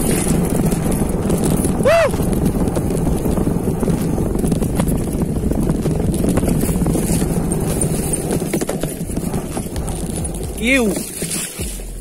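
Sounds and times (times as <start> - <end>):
mountain bike rattling: 0.0 - 12.0.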